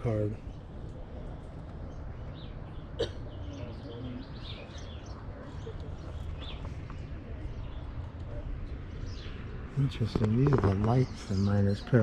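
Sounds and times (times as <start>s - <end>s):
steady low rumble: 0.0s - 11.8s
small birds chirping: 0.0s - 12.0s.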